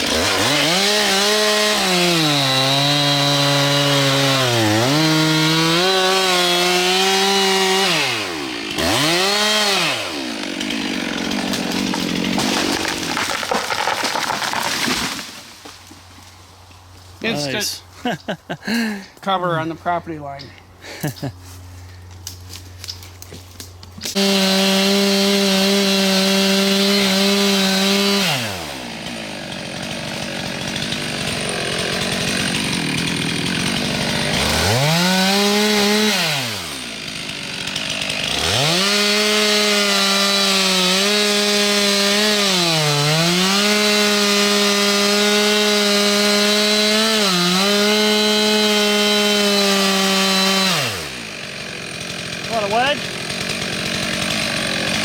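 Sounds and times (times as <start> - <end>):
chainsaw cutting tree trunk: 0.0 - 16.3, 22.1 - 55.0.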